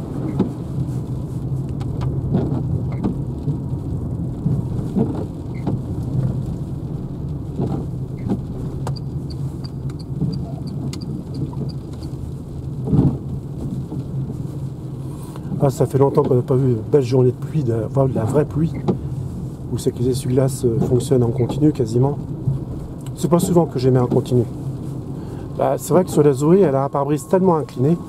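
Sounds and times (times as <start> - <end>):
rain hitting car: 0.0 - 28.0
tyre and road rumble: 0.0 - 28.0.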